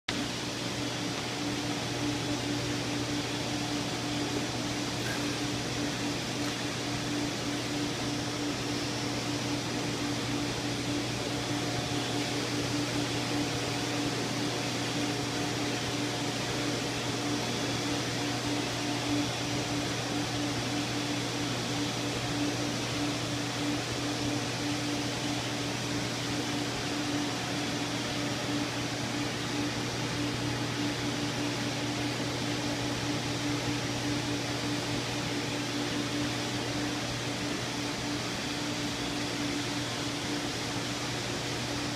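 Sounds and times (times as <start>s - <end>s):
steady mechanical hum: 0.1s - 41.9s.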